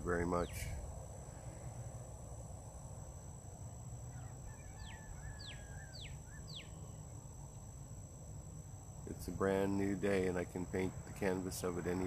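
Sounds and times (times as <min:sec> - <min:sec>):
high insect drone: 0:00.0 - 0:12.0
low wind rumble: 0:00.0 - 0:12.0.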